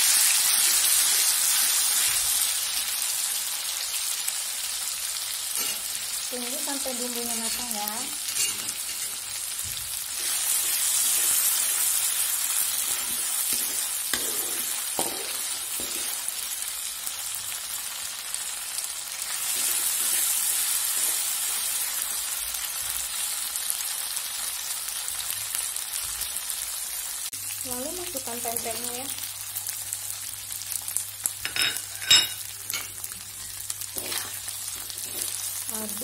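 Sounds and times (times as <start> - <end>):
spice paste sizzling in oil: 0.0 - 36.0.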